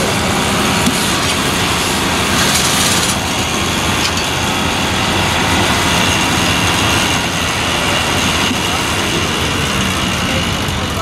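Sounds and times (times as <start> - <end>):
baler machinery working: 0.0 - 11.0
tractor engine running: 0.0 - 11.0.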